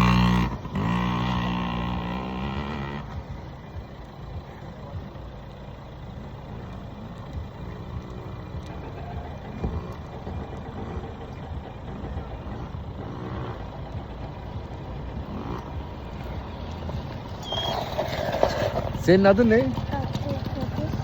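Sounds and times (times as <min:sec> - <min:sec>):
motocross bike engine revving: 0:00.0 - 0:04.1, 0:06.0 - 0:21.0.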